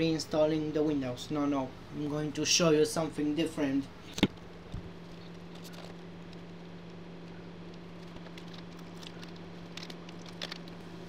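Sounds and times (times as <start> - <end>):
computer low hum: 0.0 - 11.0.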